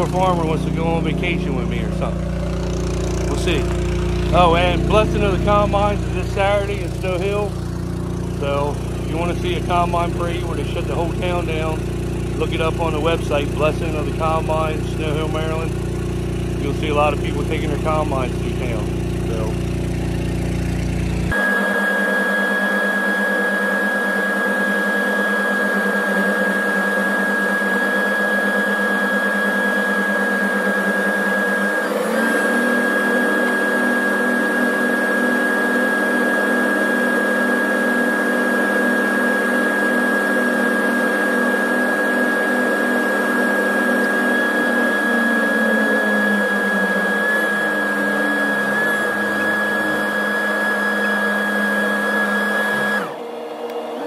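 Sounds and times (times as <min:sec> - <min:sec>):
constant high whine: 0:00.0 - 0:54.0
engine drone: 0:00.0 - 0:54.0.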